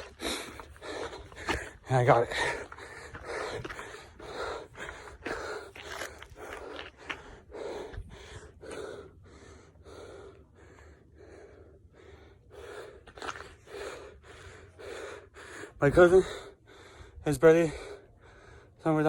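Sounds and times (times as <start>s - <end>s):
person panting hard: 0.0s - 18.8s.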